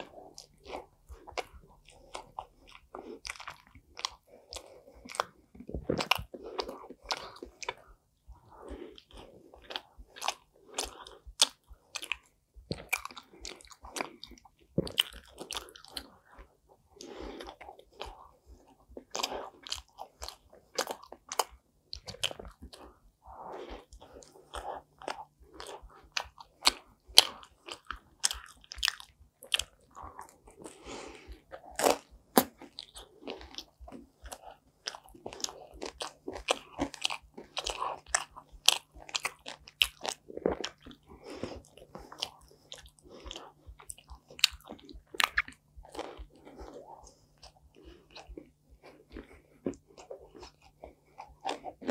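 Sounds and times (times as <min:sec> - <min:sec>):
soft chewing: 0:00.0 - 0:51.9
person crunching pizza crust: 0:08.6 - 0:51.9.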